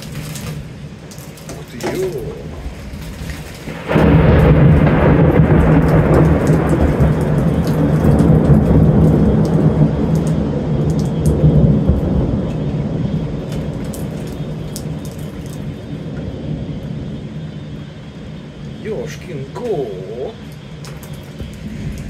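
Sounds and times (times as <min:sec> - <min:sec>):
thunder rumbling: 0:00.0 - 0:22.0.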